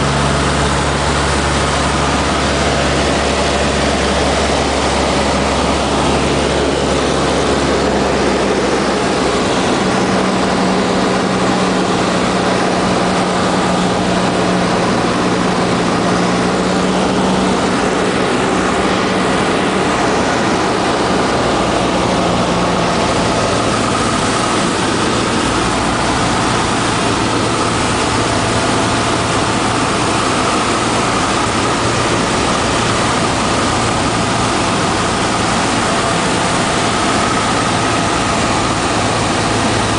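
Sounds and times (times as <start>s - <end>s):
light aircraft engine droning: 0.0s - 39.9s
rushing airflow: 0.0s - 39.9s.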